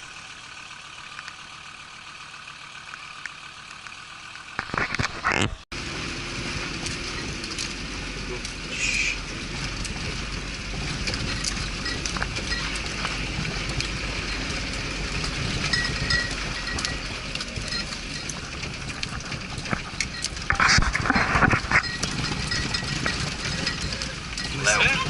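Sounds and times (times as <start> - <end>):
vehicle engine and road rumble: 0.0 - 25.0
knocks and rattles: 4.6 - 25.0
loud clatter: 4.6 - 25.0.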